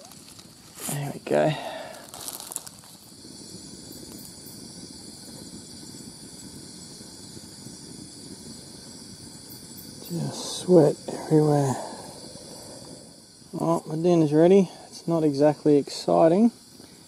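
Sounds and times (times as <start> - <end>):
crickets and insects chirping: 0.0 - 17.0
low even noise: 2.7 - 17.0.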